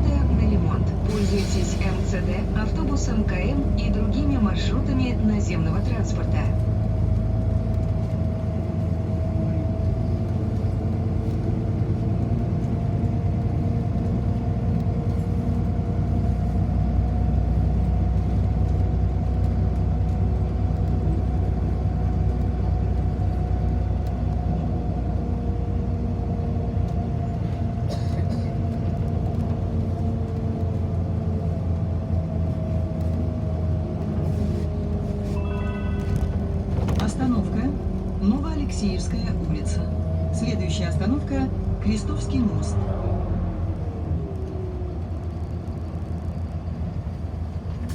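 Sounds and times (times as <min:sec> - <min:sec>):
bus drivetrain and road rumble: 0:00.0 - 0:47.9.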